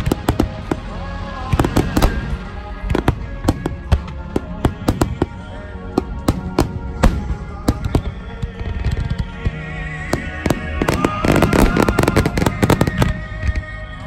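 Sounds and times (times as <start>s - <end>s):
fireworks bursting with sharp bangs: 0.0s - 14.0s
music: 0.0s - 14.0s.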